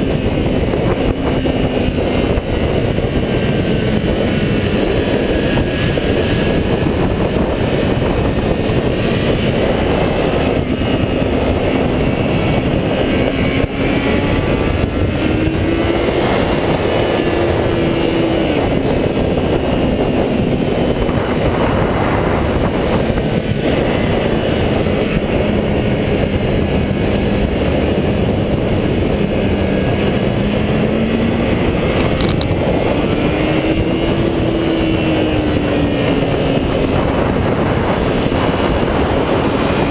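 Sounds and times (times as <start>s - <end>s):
motorcycle engine at high revs: 0.0s - 39.9s
rushing noise: 0.0s - 39.9s.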